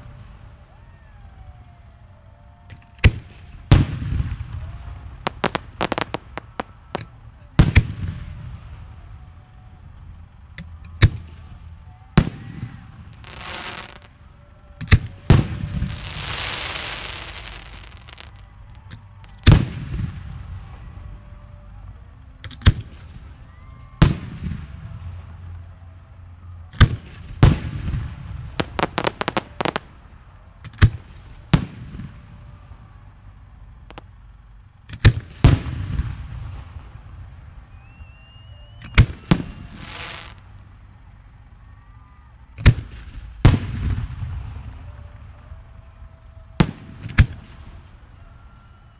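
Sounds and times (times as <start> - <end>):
fireworks bangs: 0.0 - 41.5, 42.6 - 48.6
fireworks crackling hiss: 0.0 - 48.9.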